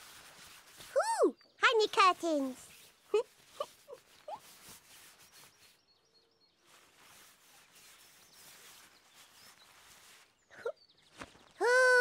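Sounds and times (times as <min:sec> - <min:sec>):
faint high bird chirps: 0:00.4 - 0:12.0.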